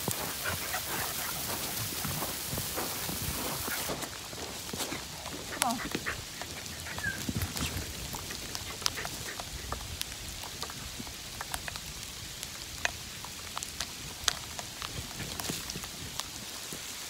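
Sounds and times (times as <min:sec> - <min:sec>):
ice crackling in trees: 0:00.0 - 0:17.0
steady light hiss: 0:00.0 - 0:17.0.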